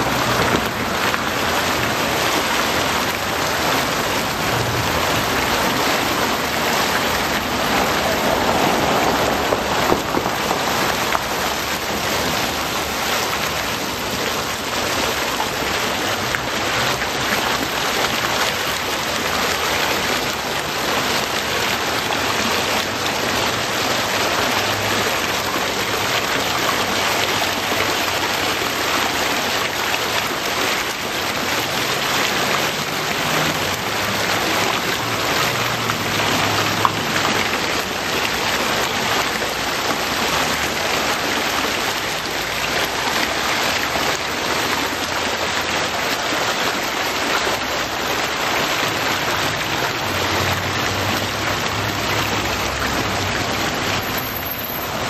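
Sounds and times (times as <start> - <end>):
fountain water splashing on metal: 0.0 - 55.0.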